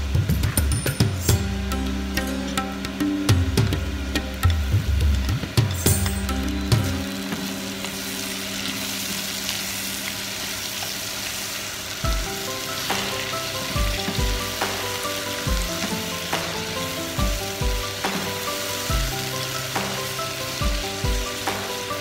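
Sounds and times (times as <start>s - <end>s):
background music with a beat: 0.0s - 8.0s, 12.0s - 22.0s
vegetables sizzling in a pot: 1.1s - 22.0s.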